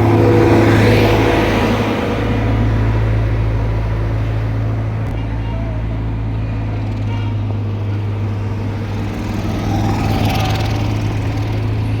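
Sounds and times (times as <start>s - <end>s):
heavy machinery engine running: 0.0s - 12.0s.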